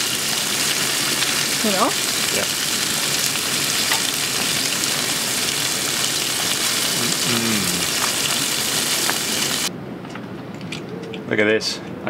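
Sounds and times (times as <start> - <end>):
lobsters sizzling on grill: 0.0 - 9.7.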